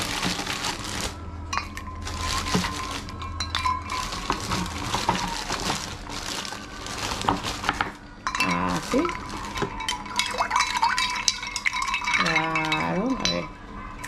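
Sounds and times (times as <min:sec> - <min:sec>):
ice cubes clinking in a glass jug: 0:00.0 - 0:14.0.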